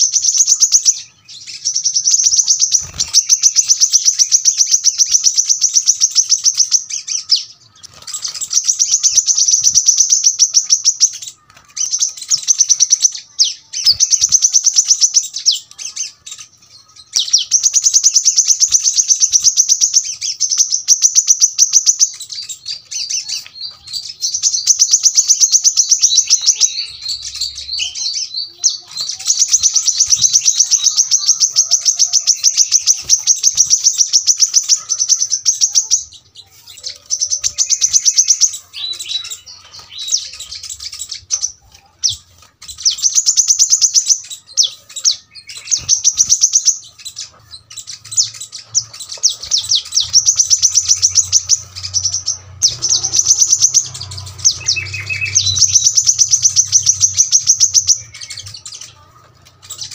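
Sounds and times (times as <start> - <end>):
bird singing high trills: 0.0 - 59.9.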